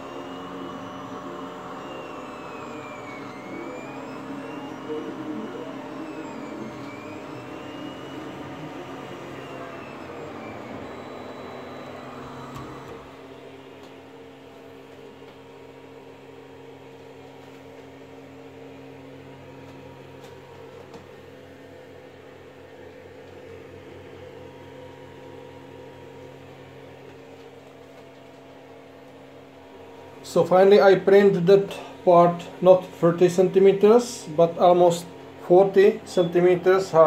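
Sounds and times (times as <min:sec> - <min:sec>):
cooling fans humming: 0:00.0 - 0:37.0.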